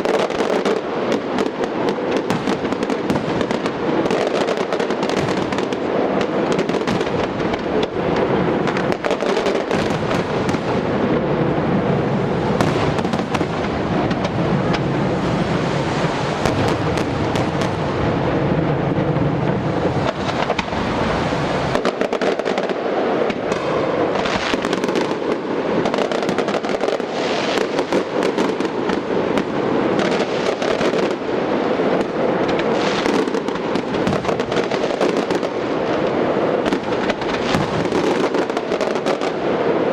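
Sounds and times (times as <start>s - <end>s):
fireworks cracks and bangs: 0.0s - 39.9s.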